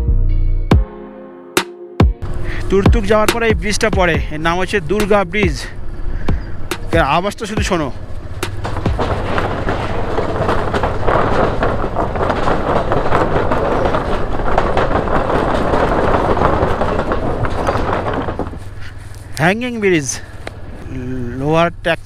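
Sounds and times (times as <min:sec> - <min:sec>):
motorcycle engine hum: 0:02.2 - 0:22.0
wooden bridge planks rattling: 0:02.2 - 0:22.0.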